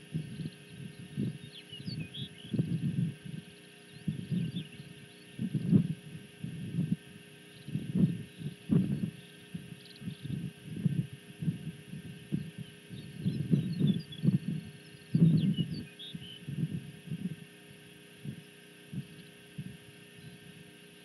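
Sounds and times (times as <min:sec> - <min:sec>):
wind buffeting microphone: 0:00.1 - 0:04.7, 0:05.4 - 0:17.4, 0:18.2 - 0:19.8.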